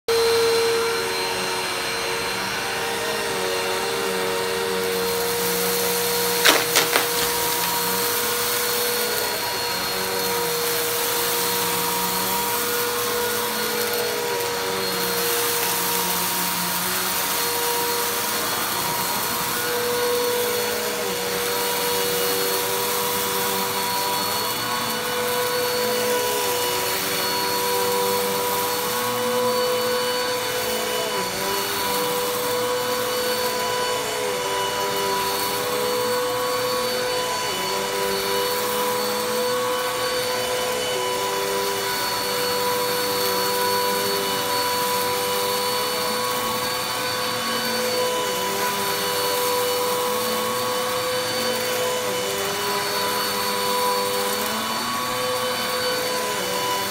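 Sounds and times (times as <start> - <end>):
vacuum cleaner motor whine: 0.0 - 56.9.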